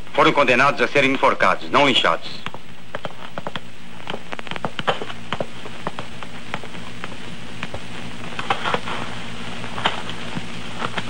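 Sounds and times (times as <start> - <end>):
film soundtrack crackle and clicks: 0.0 - 11.0
steady hiss and low hum: 0.0 - 11.0.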